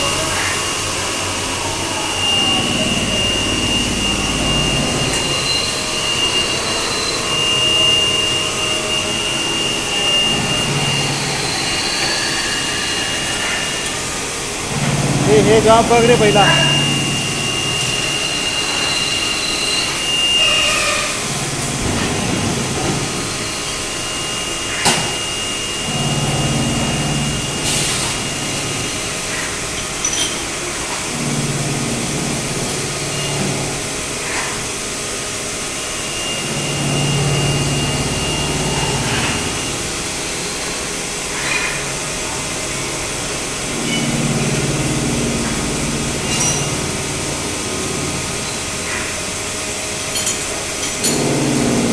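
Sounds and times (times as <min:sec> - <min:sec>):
lathe humming with high whine: 0:00.0 - 0:51.9.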